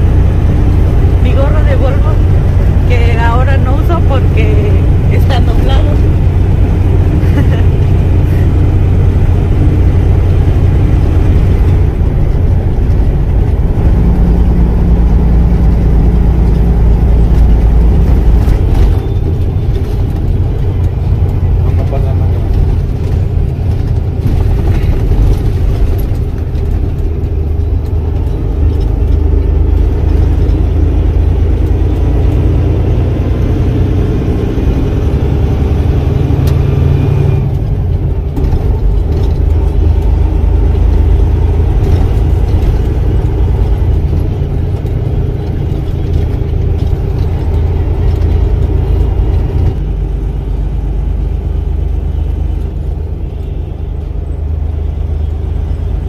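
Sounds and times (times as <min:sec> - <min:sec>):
diesel engine drone: 0:00.0 - 0:56.0
road noise: 0:00.0 - 0:56.0.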